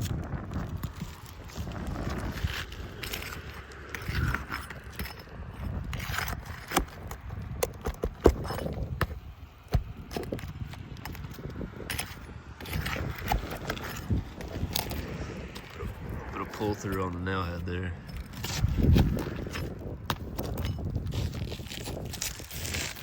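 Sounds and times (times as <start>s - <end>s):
hand tools prying shingles: 0.5s - 23.0s.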